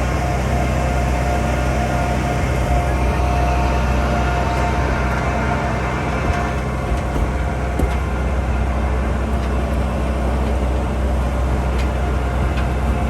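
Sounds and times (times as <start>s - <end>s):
train engine drone: 0.0s - 13.0s.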